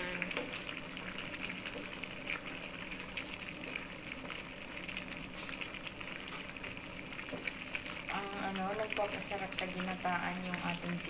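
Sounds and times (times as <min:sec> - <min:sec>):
stew bubbling at a boil: 0:00.0 - 0:11.0.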